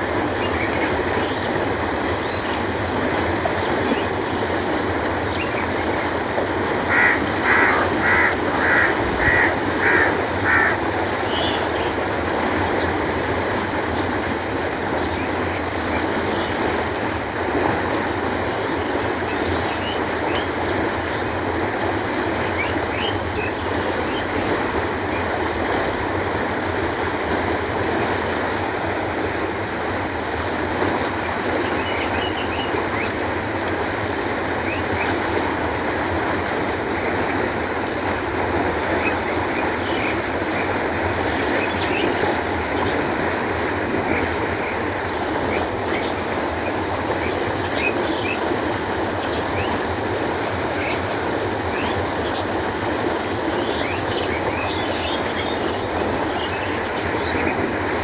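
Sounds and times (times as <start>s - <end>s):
canal water flowing: 0.0s - 58.0s.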